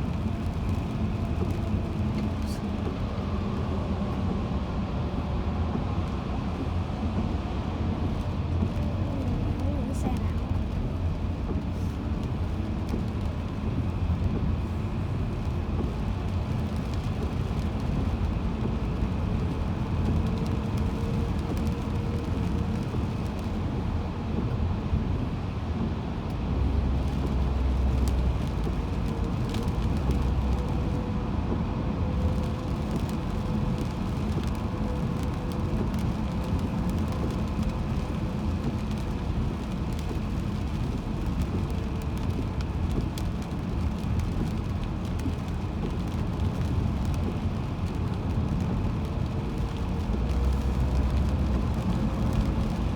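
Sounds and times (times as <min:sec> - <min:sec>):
car road rumble from inside: 0:00.0 - 0:52.9.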